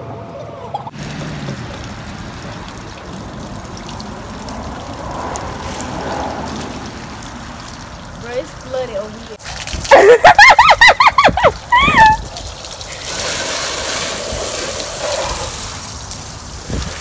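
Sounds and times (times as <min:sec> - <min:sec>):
water pouring from garden hose: 0:00.9 - 0:17.0.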